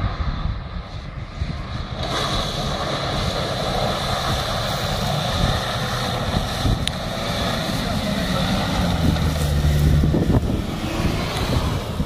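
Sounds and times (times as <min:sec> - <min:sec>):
engine pulling under load: 0:02.0 - 0:12.0
mud and water splashing: 0:02.0 - 0:12.0.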